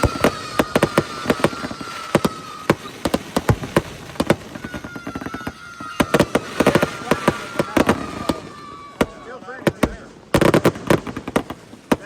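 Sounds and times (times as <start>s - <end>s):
fireworks banging and cracking: 0.0s - 12.0s.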